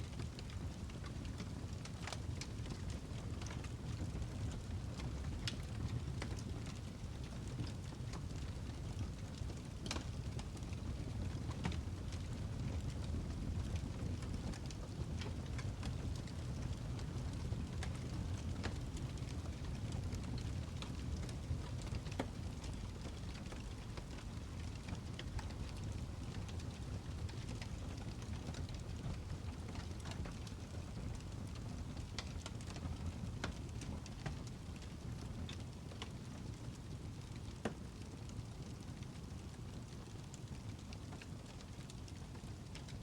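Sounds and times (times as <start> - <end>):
fire burning in fireplace: 0.0 - 43.0
fire crackling and popping: 0.1 - 43.0.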